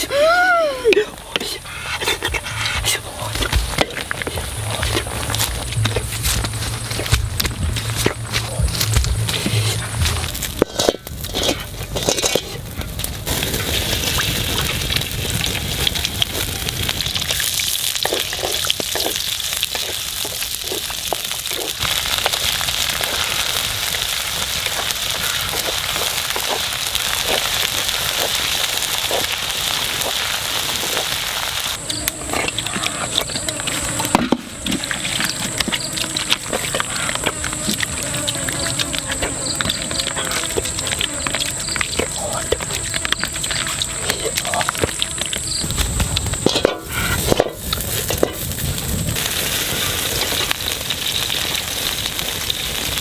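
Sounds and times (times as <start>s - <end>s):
paste sizzling in oil: 1.4s - 53.0s.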